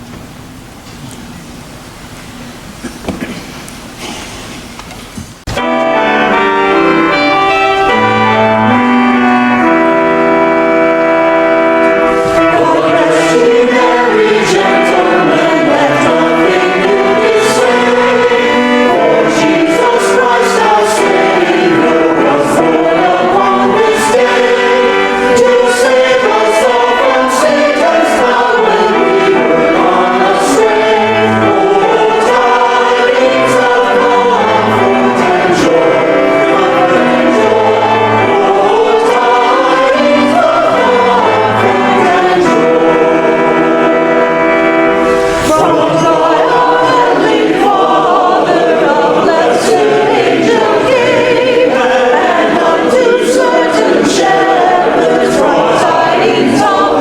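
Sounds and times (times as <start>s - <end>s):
church choir singing: 5.5s - 57.0s.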